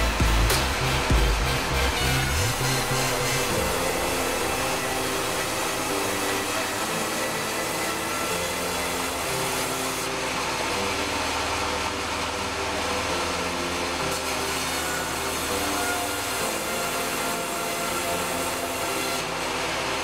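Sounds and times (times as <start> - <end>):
bandsaw cutting timber: 0.0 - 20.0.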